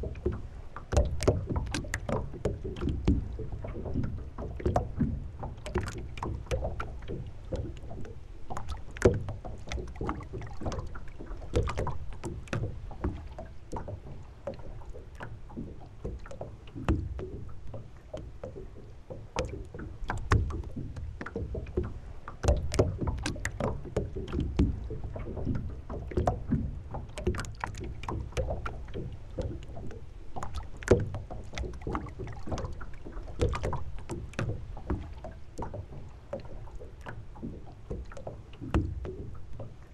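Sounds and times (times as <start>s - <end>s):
water lapping against a hull: 0.0s - 39.9s
sharp knocks and clicks: 0.1s - 39.8s.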